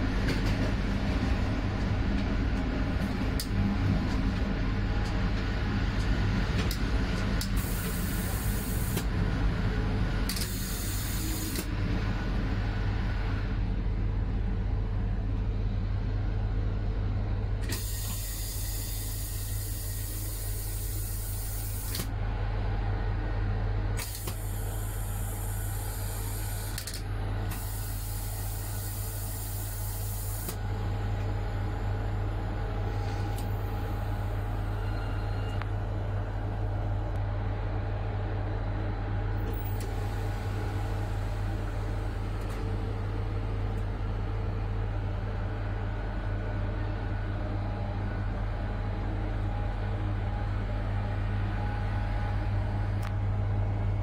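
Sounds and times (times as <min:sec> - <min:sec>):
electric locomotive hum: 0:00.0 - 0:54.0.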